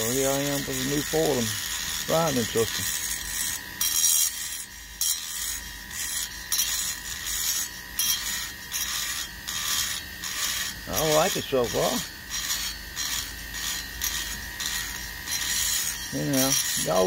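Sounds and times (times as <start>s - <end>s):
rotary grinder whine: 0.0s - 17.0s
scratchy grinding hiss: 0.0s - 17.0s.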